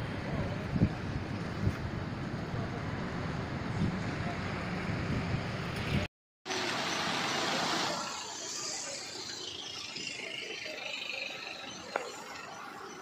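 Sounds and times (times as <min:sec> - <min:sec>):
street traffic rushing past: 0:00.0 - 0:13.0.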